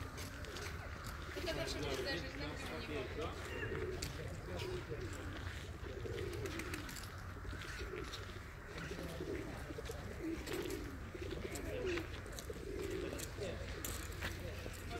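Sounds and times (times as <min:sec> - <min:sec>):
pigeons cooing: 0:00.0 - 0:14.9.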